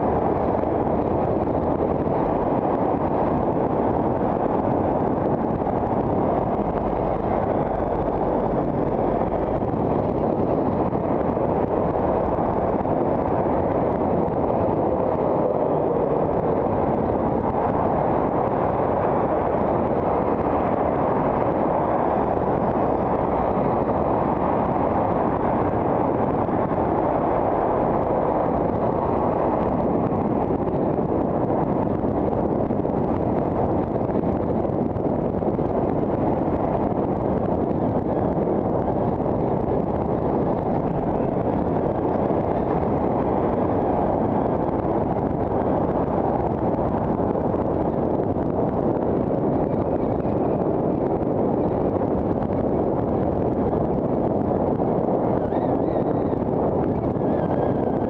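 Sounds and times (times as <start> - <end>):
passing cars: 0.0 - 58.0
wind on microphone: 0.0 - 58.0.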